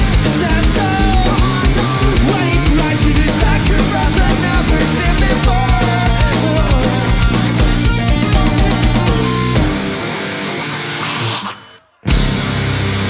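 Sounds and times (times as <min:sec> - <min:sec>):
fast pounding drums: 0:00.0 - 0:09.8, 0:12.1 - 0:13.0
wavering lead guitar melody: 0:00.0 - 0:11.0
distorted guitars: 0:00.0 - 0:13.0.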